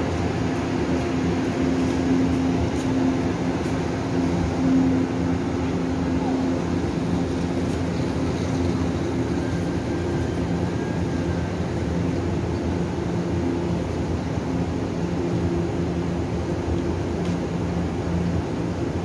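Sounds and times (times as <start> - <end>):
train humming and rumbling: 0.0 - 19.0.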